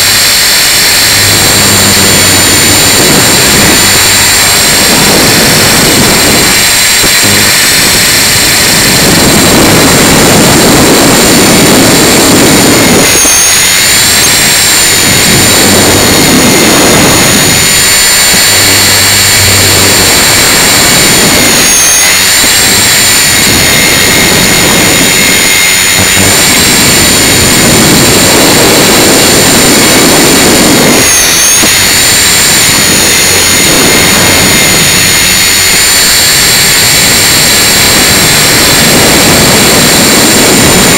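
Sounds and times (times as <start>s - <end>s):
rc helicopter motor whine: 0.0s - 40.9s
wind rush on microphone: 0.0s - 40.9s.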